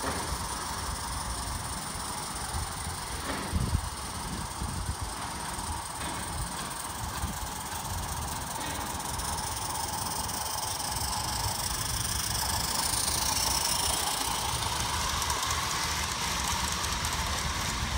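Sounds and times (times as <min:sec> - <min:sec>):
model train rolling on track: 0:00.0 - 0:17.9.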